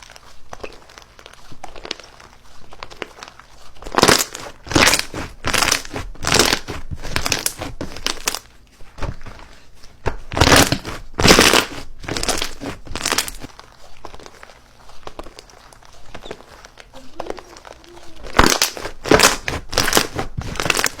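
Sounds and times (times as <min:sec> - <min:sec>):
slime crackling: 0:00.0 - 0:21.0.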